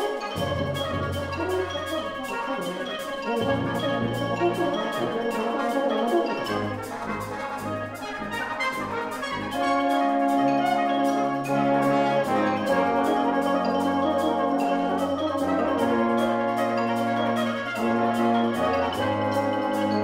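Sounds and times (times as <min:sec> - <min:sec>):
brass band playing held chords: 0:00.0 - 0:20.0.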